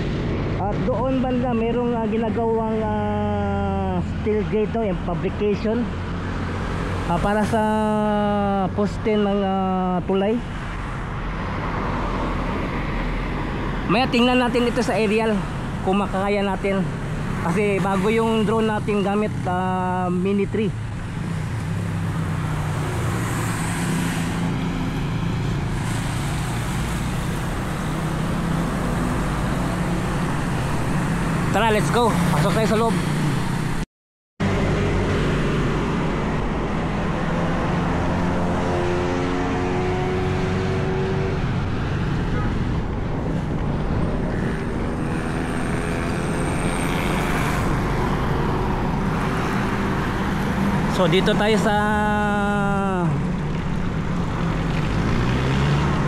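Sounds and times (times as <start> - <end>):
road and traffic noise: 0.0 - 56.0.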